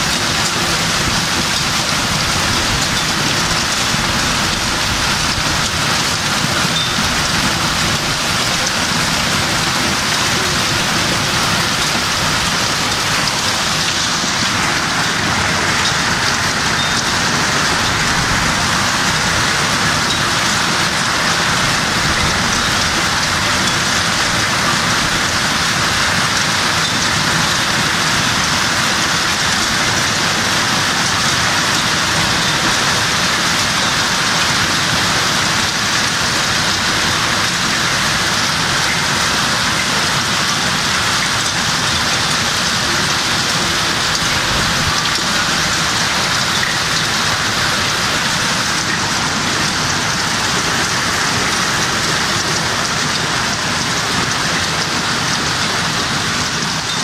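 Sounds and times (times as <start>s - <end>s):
heavy rain and hail pouring: 0.0s - 57.0s.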